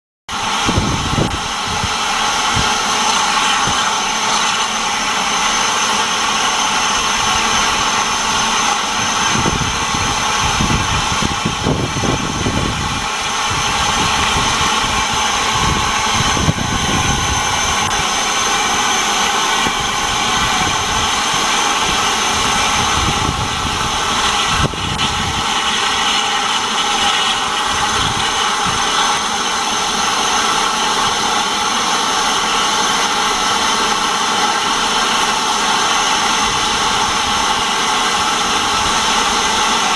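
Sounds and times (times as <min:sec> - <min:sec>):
steam hissing from locomotive: 0:00.3 - 0:39.9.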